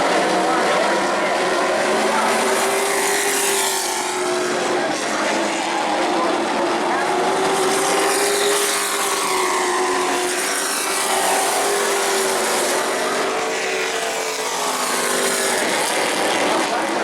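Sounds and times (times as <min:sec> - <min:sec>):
truck engines droning at speed: 0:00.0 - 0:17.0.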